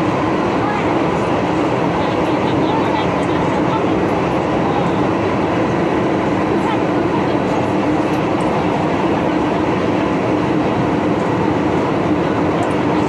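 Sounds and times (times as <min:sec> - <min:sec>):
steady train hum: 0:00.0 - 0:13.0
train rumbling through tunnel: 0:00.0 - 0:13.0.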